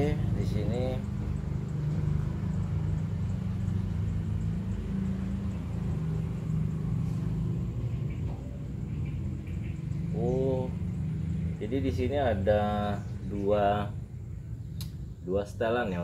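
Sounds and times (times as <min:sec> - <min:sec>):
low motor hum with rumble: 0:00.0 - 0:16.0.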